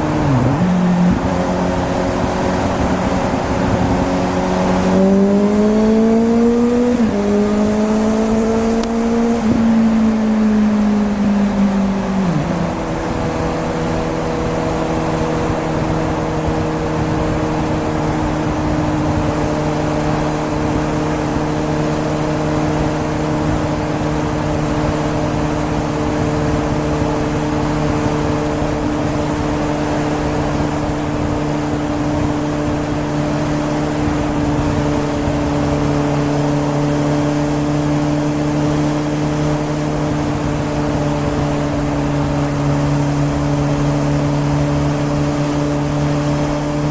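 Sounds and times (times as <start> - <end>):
motorcycle engine running: 0.0 - 46.9
road noise: 0.0 - 46.9
wind noise: 0.0 - 46.9.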